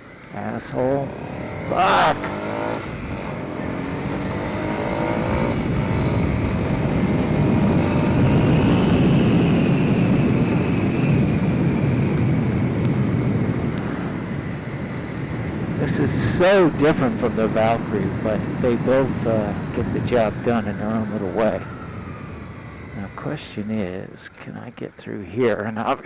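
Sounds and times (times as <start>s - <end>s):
motorcycle engine accelerating: 0.0s - 24.1s.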